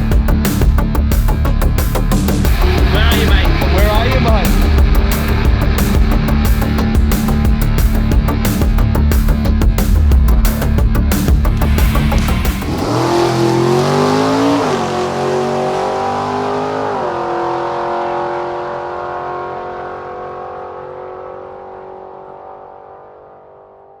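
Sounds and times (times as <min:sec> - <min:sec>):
racing car engine accelerating: 0:00.3 - 0:24.0.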